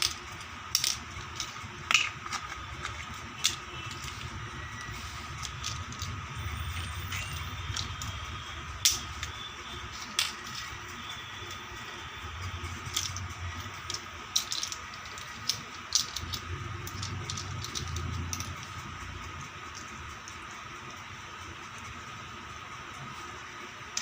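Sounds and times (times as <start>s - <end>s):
plastic toy pieces clicking: 0.0s - 12.0s, 12.6s - 21.0s
faint steady hum: 0.0s - 24.0s.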